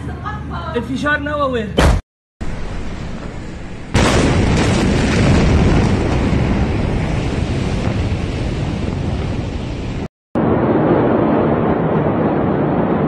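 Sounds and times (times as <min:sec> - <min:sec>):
explosion blast rush and rumble: 0:02.4 - 0:13.0.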